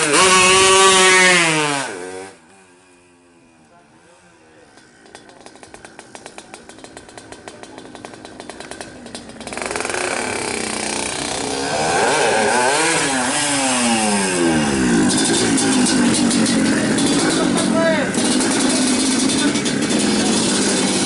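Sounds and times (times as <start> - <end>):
two-stroke engine revving high: 0.0 - 2.7, 5.0 - 21.0.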